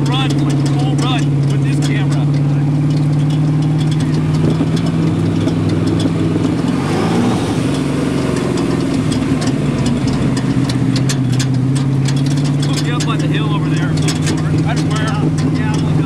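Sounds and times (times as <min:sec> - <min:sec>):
vee eight engine idling: 0:00.0 - 0:16.0.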